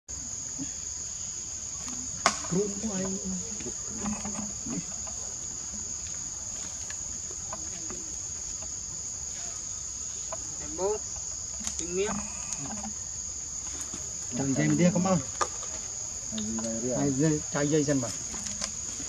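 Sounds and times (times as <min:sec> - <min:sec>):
forest insects droning: 0:00.1 - 0:19.0.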